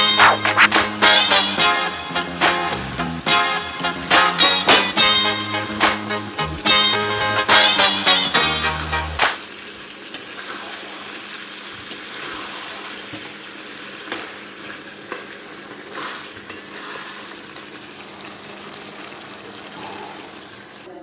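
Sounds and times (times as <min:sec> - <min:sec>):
curry sizzling in a pan: 0:00.0 - 0:20.9.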